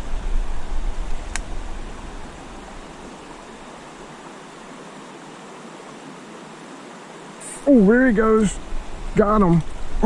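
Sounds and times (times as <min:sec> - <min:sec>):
creek water flowing: 0:00.0 - 0:10.0.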